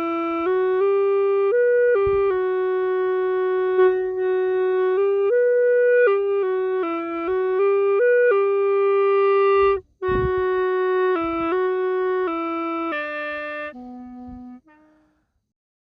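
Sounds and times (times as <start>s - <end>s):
bamboo flute melody: 0.0s - 15.2s.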